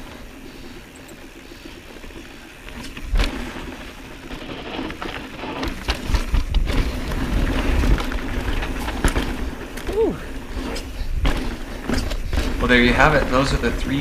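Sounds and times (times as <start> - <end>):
bike knocking and rattling: 0.0 - 14.0
bike tyres rolling over dirt: 0.0 - 14.0.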